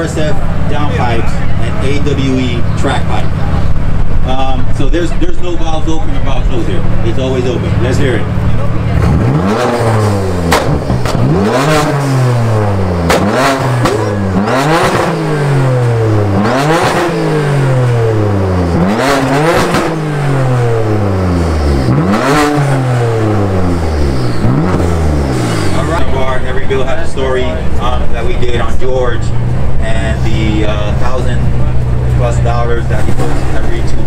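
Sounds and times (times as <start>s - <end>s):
car engine revving hard: 0.0s - 34.0s.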